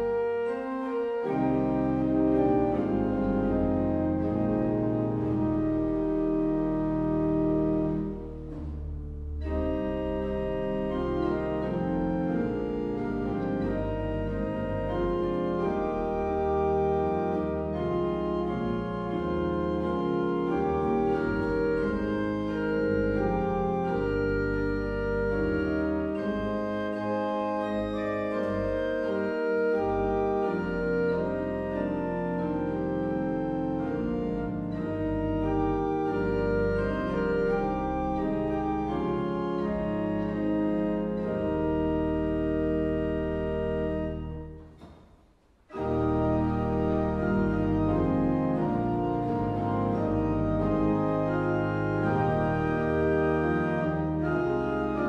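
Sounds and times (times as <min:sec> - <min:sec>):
organ chords: 0:00.0 - 0:45.0, 0:45.7 - 0:55.0.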